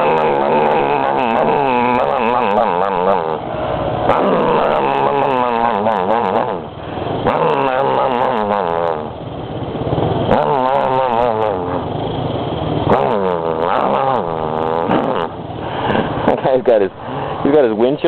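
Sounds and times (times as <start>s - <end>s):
man imitating motorcycle engine: 0.0s - 9.3s, 9.9s - 18.0s.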